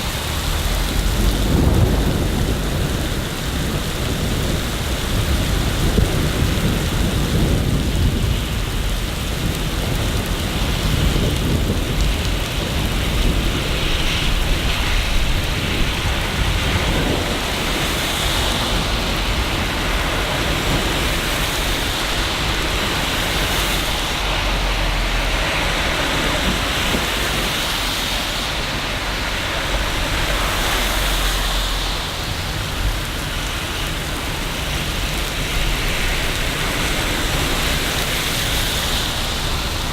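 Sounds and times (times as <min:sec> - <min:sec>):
heavy rain falling: 0:00.0 - 0:39.9
low thunder rumbling: 0:00.0 - 0:39.9.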